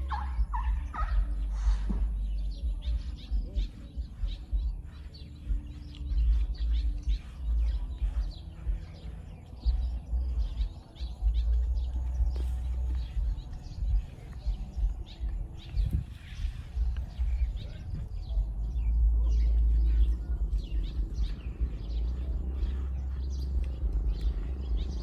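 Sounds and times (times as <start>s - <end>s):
low rumble: 0.0s - 25.0s
small birds chirping: 0.0s - 25.0s.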